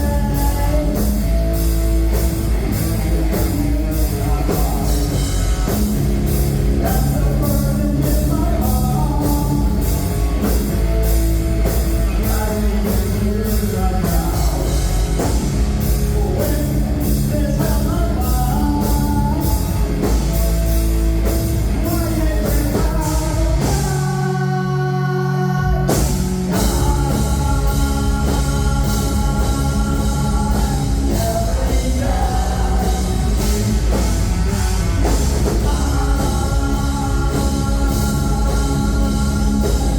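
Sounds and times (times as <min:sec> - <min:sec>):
live heavy rock band: 0:00.0 - 0:39.9.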